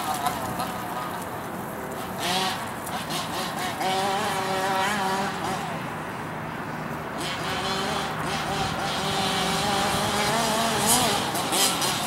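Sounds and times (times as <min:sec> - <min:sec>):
small two-stroke engine revving: 0:02.0 - 0:12.0.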